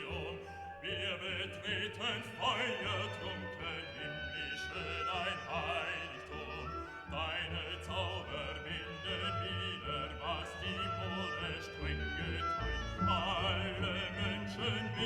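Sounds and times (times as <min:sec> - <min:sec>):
operatic voice singing: 0:00.0 - 0:15.0
orchestral classical music: 0:00.0 - 0:15.0.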